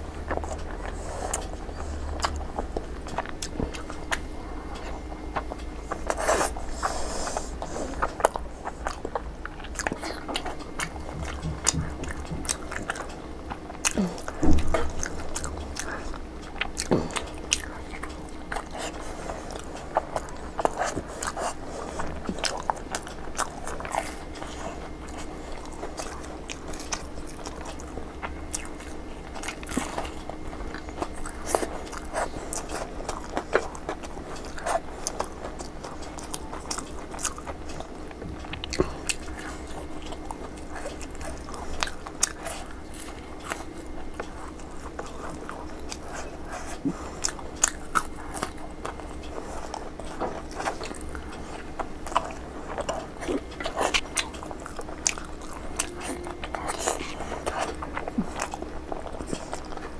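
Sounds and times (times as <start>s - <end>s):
chewing: 0.0s - 59.9s
faint steady hum: 0.0s - 59.9s.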